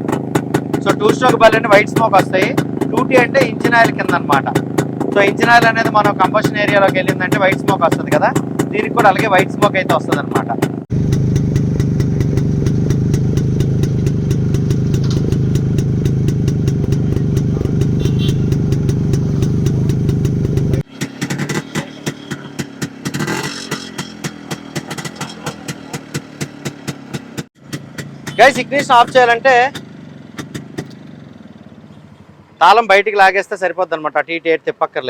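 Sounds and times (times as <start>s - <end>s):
two-stroke engine running: 0.0s - 32.5s.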